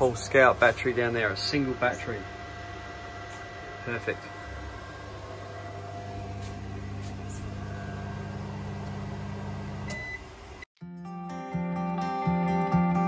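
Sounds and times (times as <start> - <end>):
microwave oven humming: 0.0 - 10.7.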